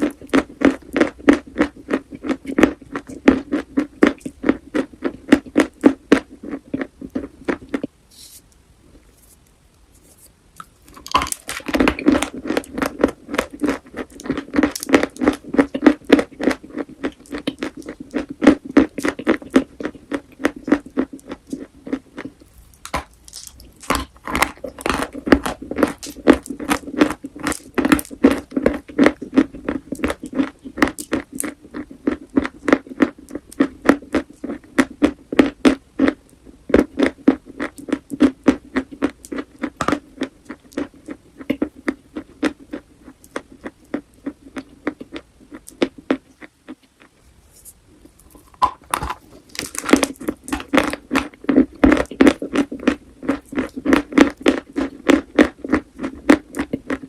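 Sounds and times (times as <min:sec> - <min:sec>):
chalk crunching and chewing: 0:00.0 - 0:08.4, 0:09.1 - 0:36.2, 0:36.8 - 0:57.0.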